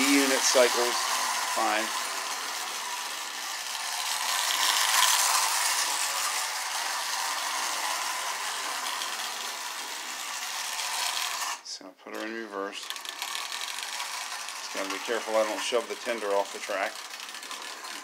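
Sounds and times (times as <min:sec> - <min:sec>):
toy train motor whirring: 0:00.0 - 0:18.0
toy train wheels clattering on rails: 0:00.0 - 0:18.0.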